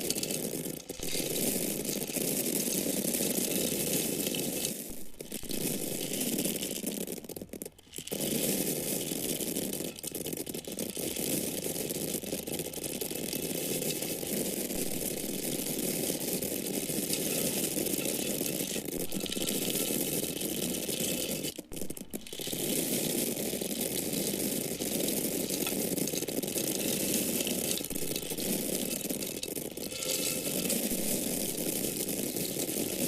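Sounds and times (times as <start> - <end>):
dried corn kernels pouring: 0.0 - 33.0.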